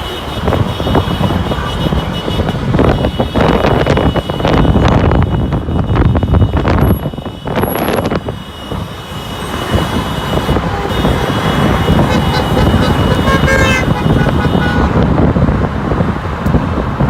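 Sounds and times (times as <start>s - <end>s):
car horns honking: 0.0s - 15.2s
street traffic noise: 0.0s - 17.0s.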